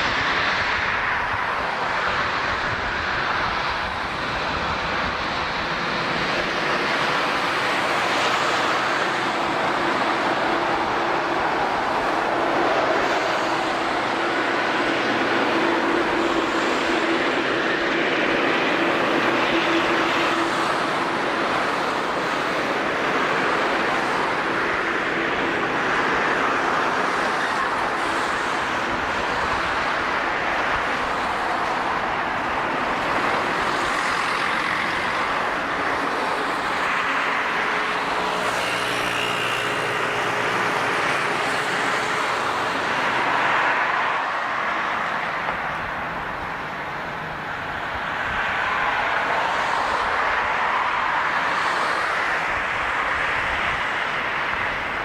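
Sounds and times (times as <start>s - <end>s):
jet airliner engines: 0.0s - 55.0s.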